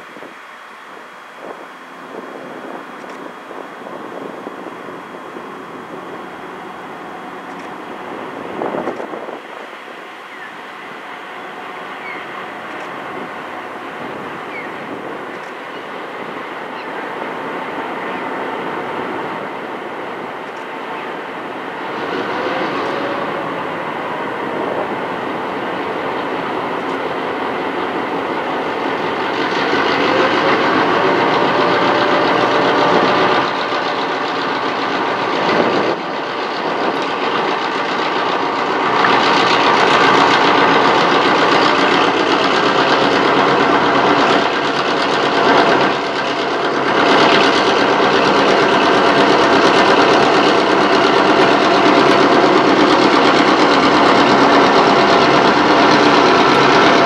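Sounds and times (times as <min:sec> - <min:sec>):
diesel locomotive engines droning: 0:00.0 - 0:57.0
train wheels on rails: 0:00.0 - 0:57.0.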